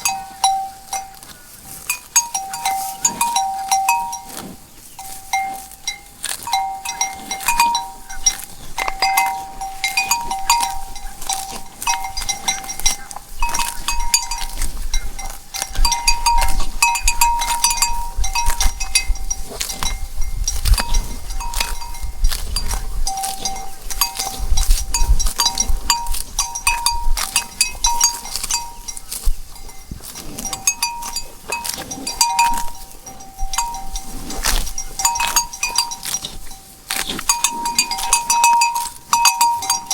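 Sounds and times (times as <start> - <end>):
cow bells clanking: 0.0 - 39.9.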